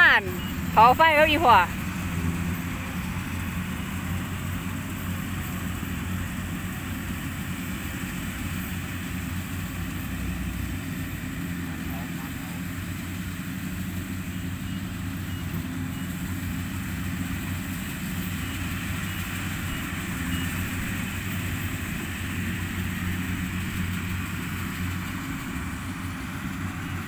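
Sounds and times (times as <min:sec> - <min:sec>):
harvester diesel engine droning: 0:00.0 - 0:27.0.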